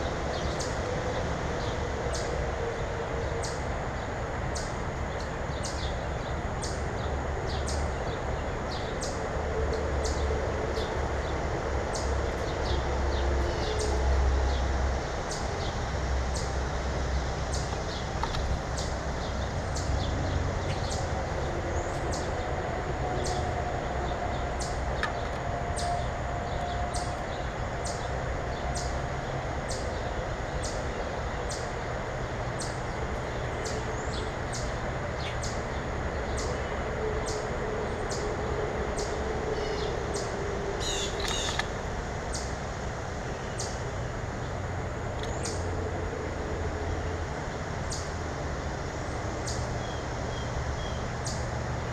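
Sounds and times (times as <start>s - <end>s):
small birds chipping: 3.3s - 45.8s.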